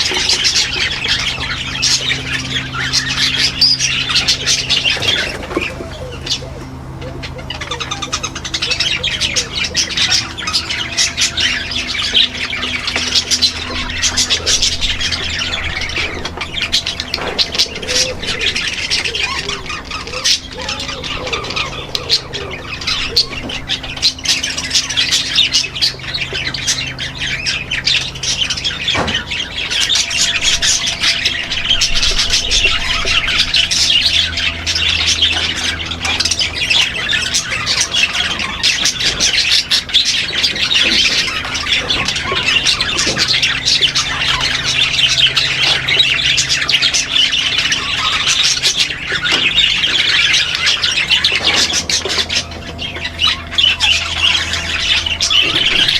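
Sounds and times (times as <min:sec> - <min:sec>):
parrots chattering and squawking: 0:00.0 - 0:55.9.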